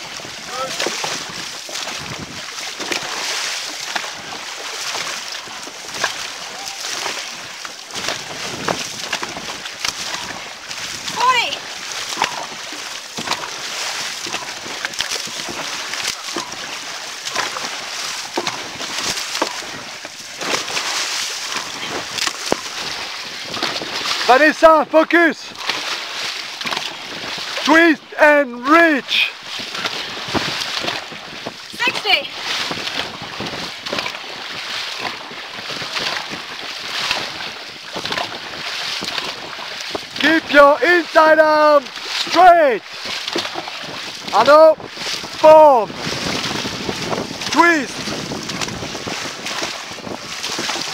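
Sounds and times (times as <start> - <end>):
wind on microphone: 0.0 - 3.2, 5.5 - 24.3, 29.4 - 40.7, 42.8 - 50.9
paddles splashing through water: 0.0 - 50.9
rushing water: 0.0 - 50.9.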